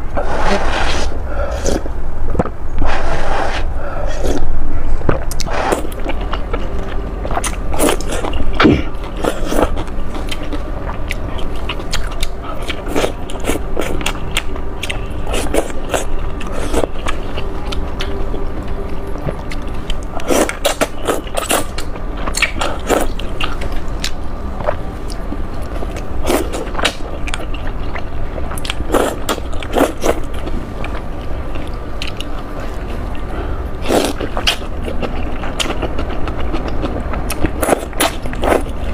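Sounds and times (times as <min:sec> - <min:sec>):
steady low hum: 0:00.0 - 0:38.9
person chewing noodles: 0:00.2 - 0:38.9.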